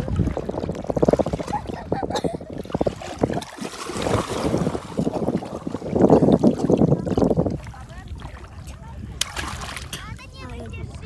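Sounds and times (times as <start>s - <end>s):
sea water splashing: 0.0s - 11.0s
wind rumble on microphone: 0.0s - 11.0s.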